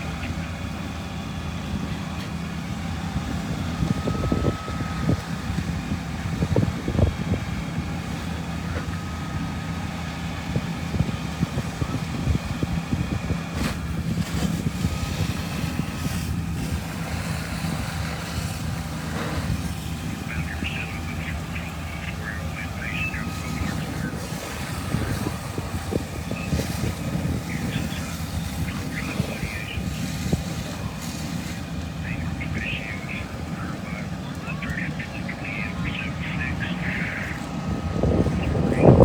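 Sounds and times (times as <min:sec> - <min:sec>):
fire engines idling: 0:00.0 - 0:39.0
wind rumbling on microphone: 0:00.0 - 0:39.0.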